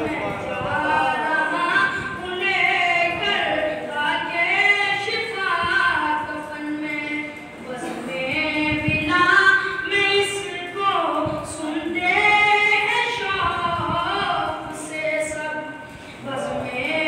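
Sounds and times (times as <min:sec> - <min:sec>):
boy singing into a microphone: 0:00.0 - 0:17.0.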